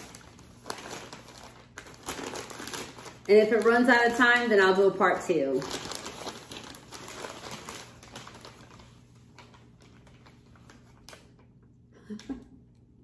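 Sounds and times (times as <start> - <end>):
packing paper crinkling: 0.0 - 11.5.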